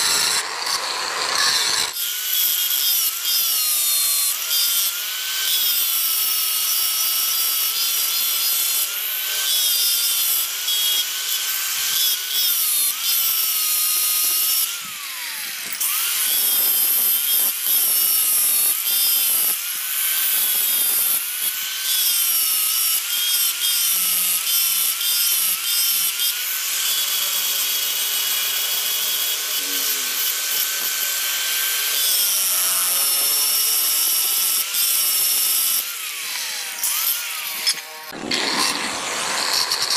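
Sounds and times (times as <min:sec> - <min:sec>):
angle grinder whine: 0:00.0 - 0:39.9.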